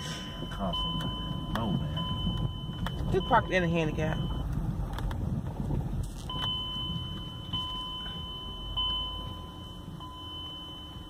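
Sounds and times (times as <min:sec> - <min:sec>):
car warning chime: 0:00.0 - 0:04.7, 0:06.2 - 0:11.0.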